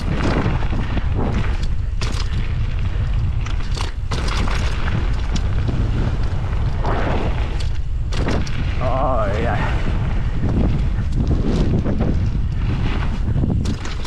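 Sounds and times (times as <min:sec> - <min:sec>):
bike knocking and rattling: 0:00.0 - 0:14.0
wind buffeting microphone: 0:00.0 - 0:14.0.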